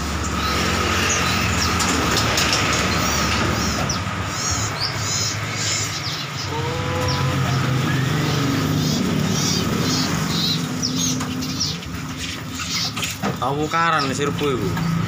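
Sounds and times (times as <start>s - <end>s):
low engine hum: 0.0s - 12.6s
songbirds chirping: 0.0s - 15.0s.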